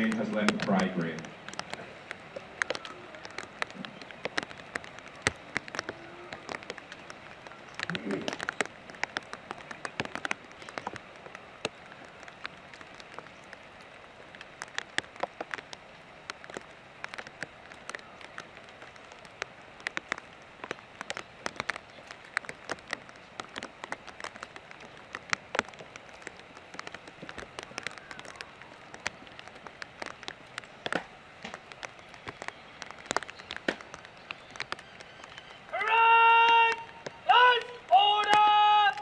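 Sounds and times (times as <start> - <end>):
rain hissing: 0.0 - 39.0
raindrops tapping close by: 0.0 - 39.0.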